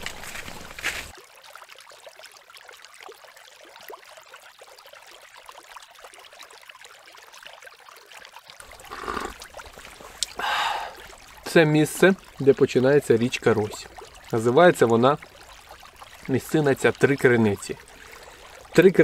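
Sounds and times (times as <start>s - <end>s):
water trickling over stone: 0.0s - 19.0s.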